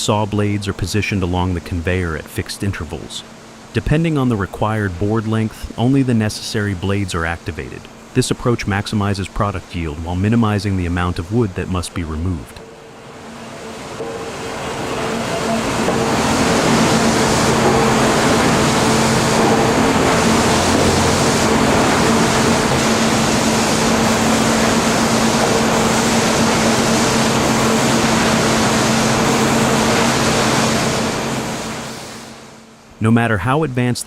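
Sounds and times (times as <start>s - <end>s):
sawmill machinery din: 0.0s - 32.4s
low hum: 0.0s - 32.6s.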